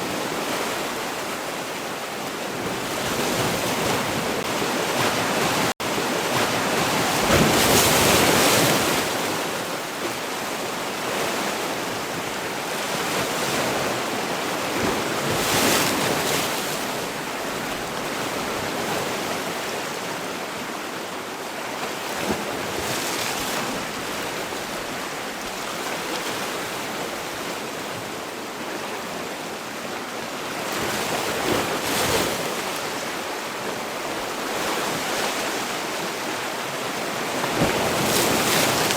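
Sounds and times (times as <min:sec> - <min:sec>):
sea waves breaking: 0:00.0 - 0:20.7, 0:21.8 - 0:38.9.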